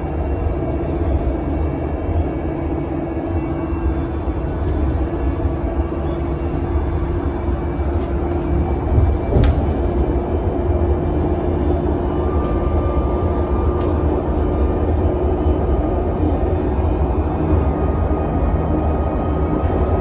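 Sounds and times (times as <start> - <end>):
bus cabin rumble: 0.0 - 20.0.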